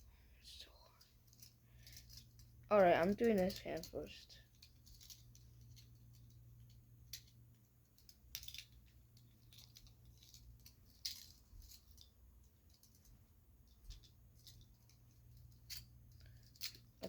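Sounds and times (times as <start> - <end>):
low steady hum: 0.0 - 17.0
handcuffs clicking and rattling: 0.9 - 17.0.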